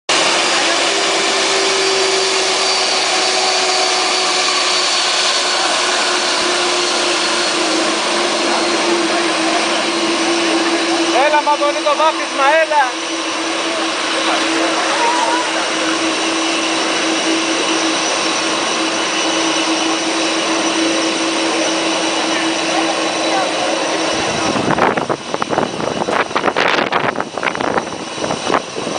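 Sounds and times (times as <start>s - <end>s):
aircraft engine blast rushing air: 0.1s - 28.9s.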